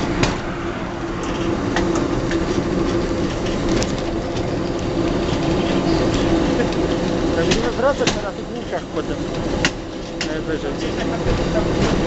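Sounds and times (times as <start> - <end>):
low hum: 0.0 - 12.0
tram wheels rumbling on rail: 0.0 - 12.0.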